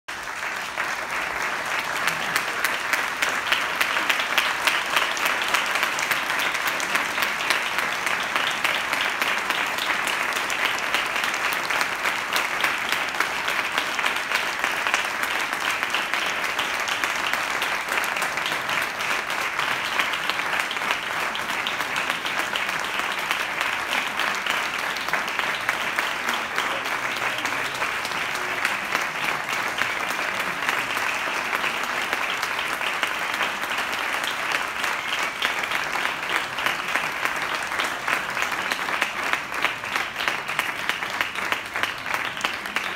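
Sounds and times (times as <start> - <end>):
audience applauding: 0.1 - 42.9.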